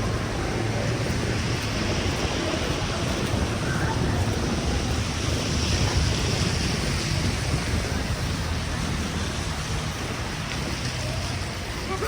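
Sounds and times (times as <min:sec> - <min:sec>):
rushing street noise: 0:00.0 - 0:12.0.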